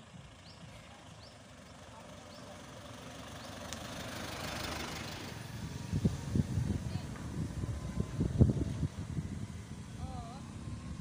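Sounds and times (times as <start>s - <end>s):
car driving past: 1.2s - 11.0s.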